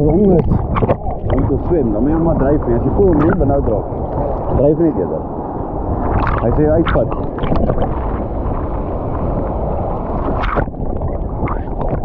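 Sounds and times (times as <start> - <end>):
sea washing: 0.0 - 12.0
wind buffeting microphone: 0.0 - 12.0.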